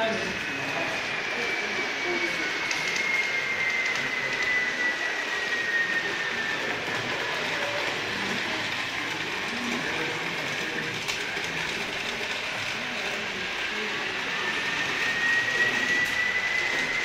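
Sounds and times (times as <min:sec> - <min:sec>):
model train wheels hissing: 0:00.0 - 0:17.0
thin falling whine: 0:00.0 - 0:17.0.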